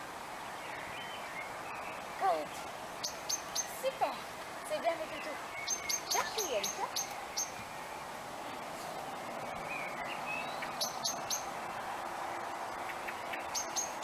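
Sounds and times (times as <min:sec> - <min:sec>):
birds chirping: 0:00.0 - 0:14.0
faint steady hiss: 0:00.0 - 0:14.0.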